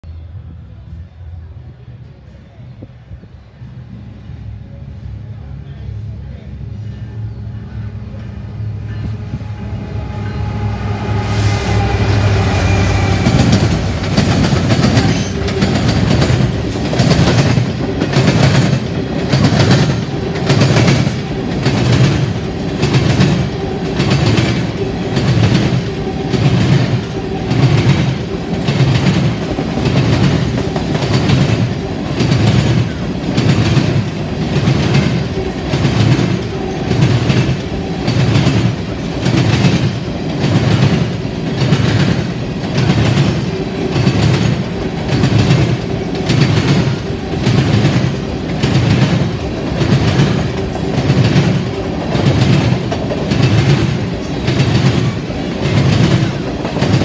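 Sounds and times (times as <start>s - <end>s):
diesel locomotive passing: 0.0s - 57.0s
train wheels clacking: 8.2s - 57.0s.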